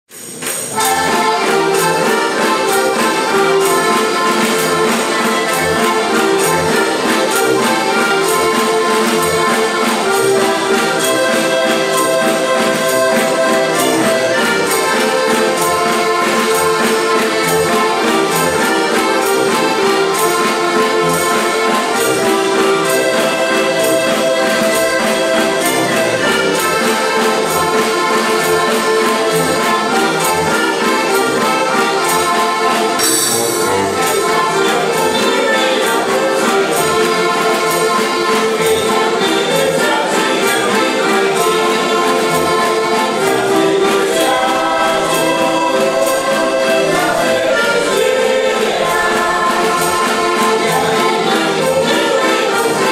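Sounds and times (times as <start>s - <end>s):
button accordion folk music: 0.1s - 52.9s.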